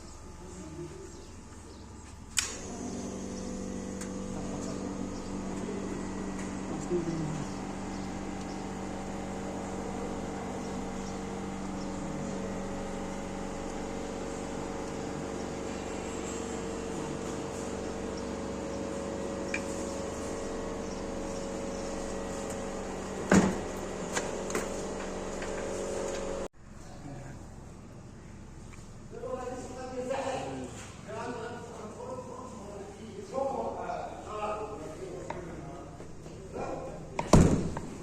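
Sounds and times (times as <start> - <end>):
cooling unit humming: 0.0 - 38.0.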